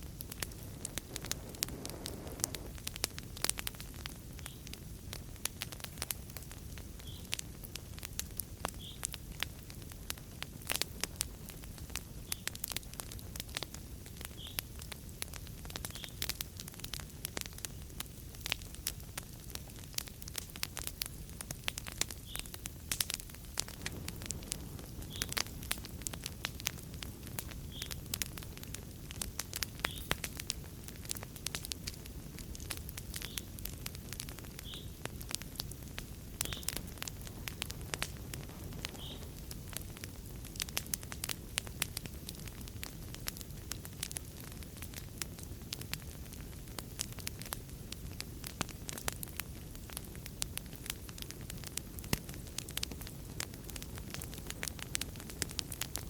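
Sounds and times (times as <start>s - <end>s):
fire pops and snaps: 0.0s - 56.0s
low rumble of flames: 0.0s - 56.0s.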